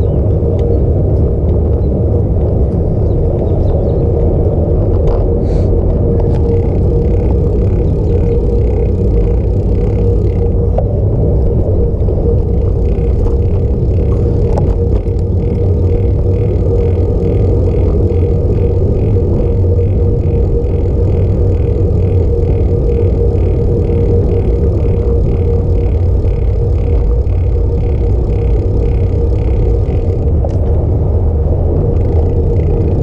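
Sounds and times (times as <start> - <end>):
bicycle tyres rumbling on asphalt: 0.0 - 33.0
wind buffeting microphone: 0.0 - 33.0.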